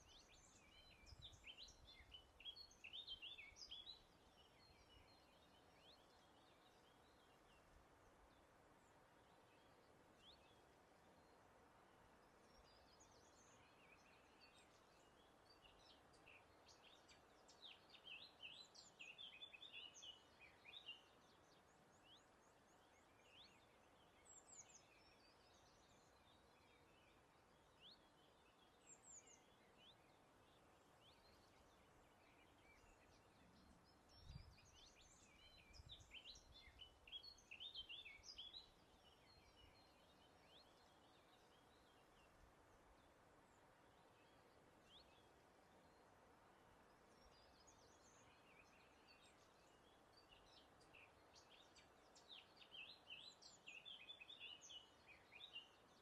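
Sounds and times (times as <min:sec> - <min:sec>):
faint breeze hiss: 0:00.0 - 0:56.0.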